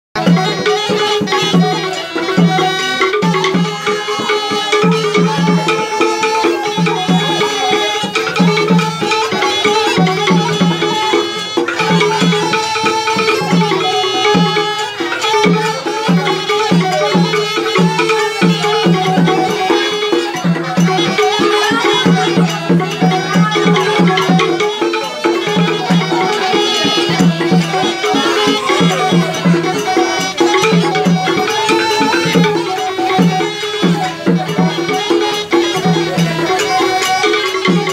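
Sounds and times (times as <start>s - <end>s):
low drum beat: 0.2s - 36.6s
wind pipes melody: 0.2s - 37.9s
wooden xylophone: 0.2s - 37.9s.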